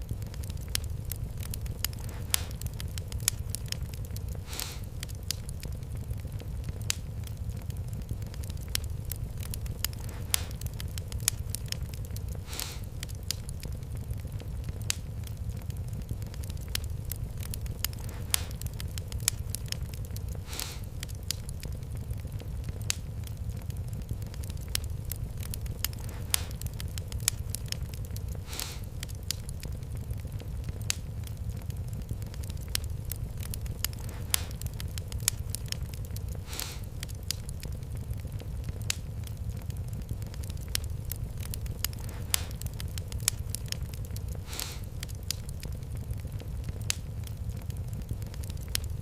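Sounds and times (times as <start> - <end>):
fireplace fire crackling: 0.0 - 49.0
low rumble of flames: 0.0 - 49.0
soft hiss: 0.0 - 49.0.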